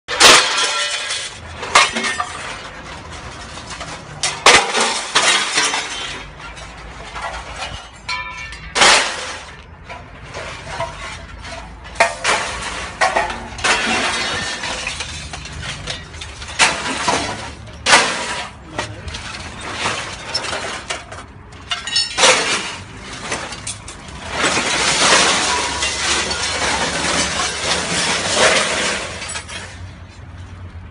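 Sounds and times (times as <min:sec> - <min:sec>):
sheet metal crunching and cracking: 0:00.1 - 0:30.0.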